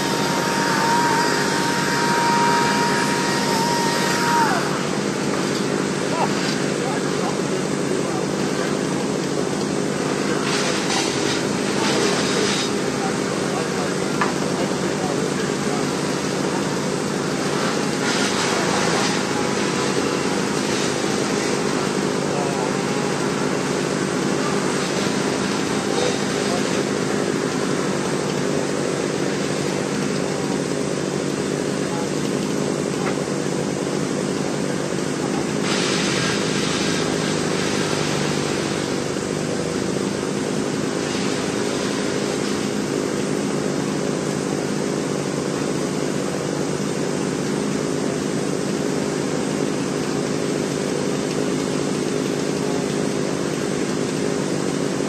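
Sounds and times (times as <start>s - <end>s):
small engine running steadily: 0.0s - 55.0s.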